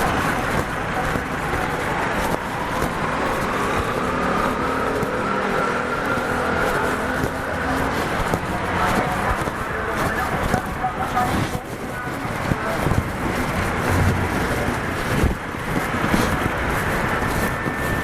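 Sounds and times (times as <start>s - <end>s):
traffic rumble: 0.0s - 18.0s
vehicle engine running close by: 0.0s - 18.0s.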